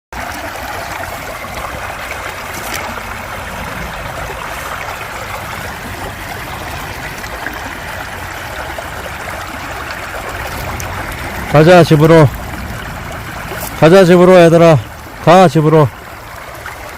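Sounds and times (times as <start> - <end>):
stream water flowing: 0.1 - 16.9.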